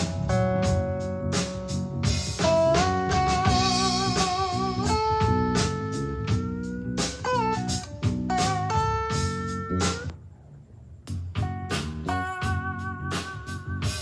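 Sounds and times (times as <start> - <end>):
blues guitar with drums and bass: 0.0 - 10.2, 10.9 - 14.0.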